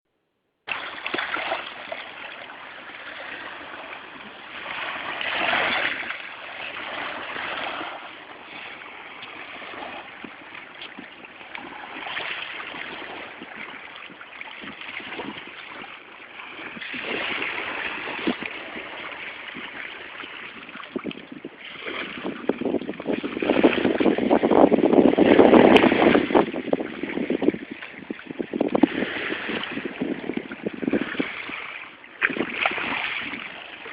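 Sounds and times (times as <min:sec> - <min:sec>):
ocean waves breaking: 0:00.7 - 0:33.9.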